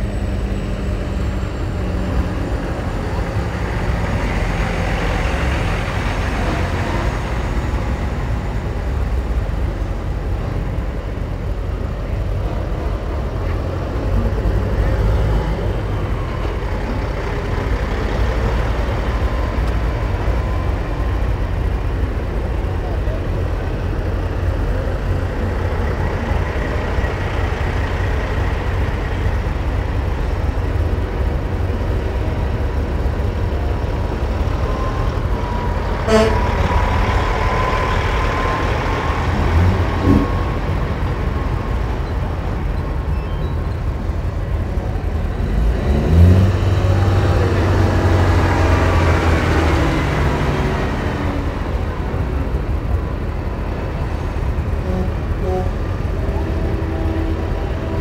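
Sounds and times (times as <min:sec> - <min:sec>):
diesel truck engines rumbling: 0:00.0 - 0:58.0
truck engine revving: 0:00.0 - 0:58.0.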